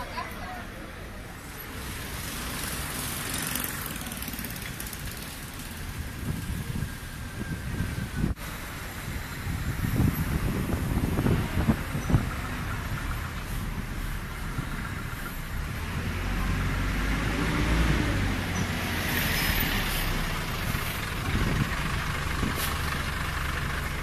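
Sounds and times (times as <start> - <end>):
traffic engines rumbling: 0.0 - 24.0.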